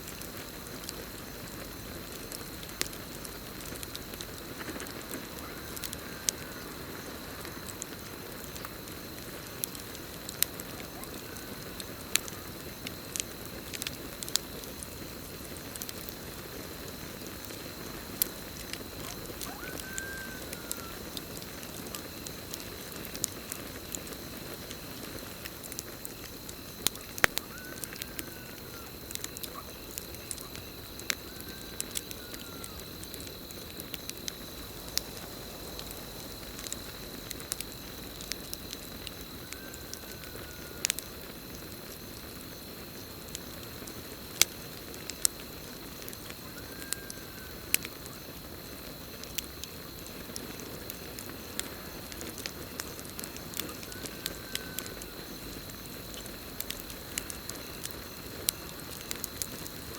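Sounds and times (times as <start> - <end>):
campfire hissing: 0.0 - 59.9
crickets droning: 0.0 - 59.9
fire crackling and popping: 0.0 - 59.9.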